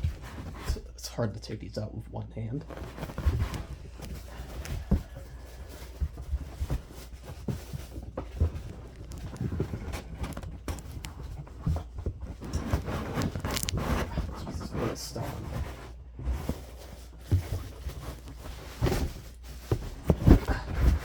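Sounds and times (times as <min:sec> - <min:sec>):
cardboard box knocks and bumps: 0:02.8 - 0:21.0.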